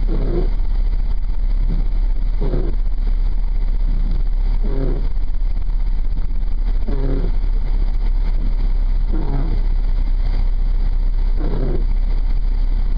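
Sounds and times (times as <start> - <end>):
engine and road rumble in vehicle: 0.0 - 12.9.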